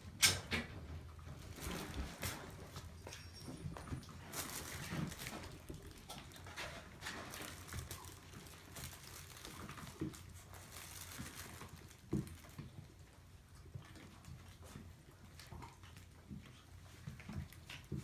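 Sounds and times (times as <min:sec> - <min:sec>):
rustling and scratching: 0:00.6 - 0:18.0
puppies pattering on paper: 0:01.2 - 0:18.0.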